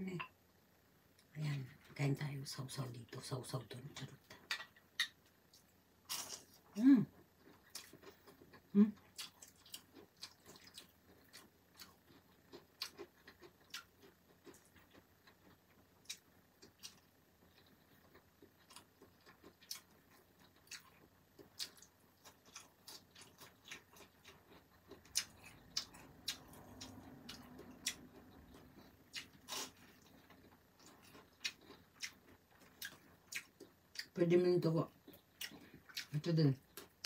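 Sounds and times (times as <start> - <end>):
crunchy food chewing: 4.3 - 34.2, 34.9 - 37.0.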